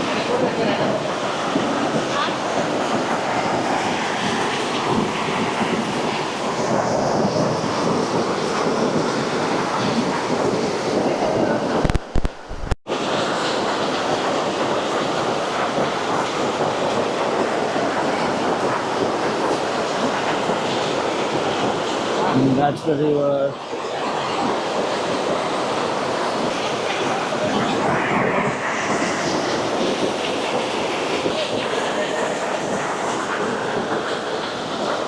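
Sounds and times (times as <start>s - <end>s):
stream gushing at waterfall: 0.0s - 35.0s.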